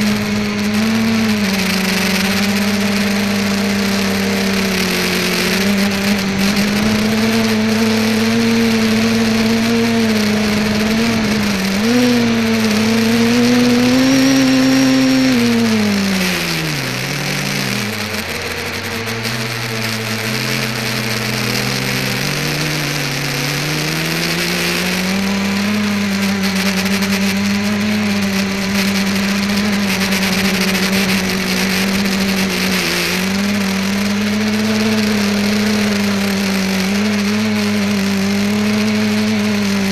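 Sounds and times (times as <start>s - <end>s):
drone motors and propellers humming: 0.0s - 39.9s.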